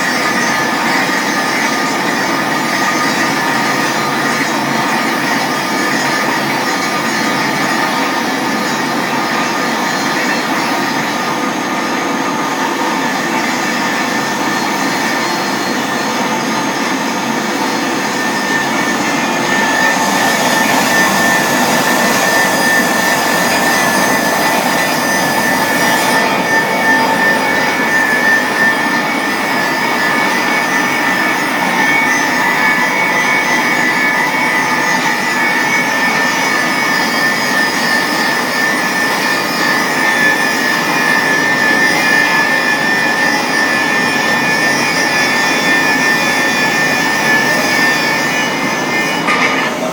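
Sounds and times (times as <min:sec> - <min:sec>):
pipe cleaning machine whining: 0:00.0 - 0:49.9.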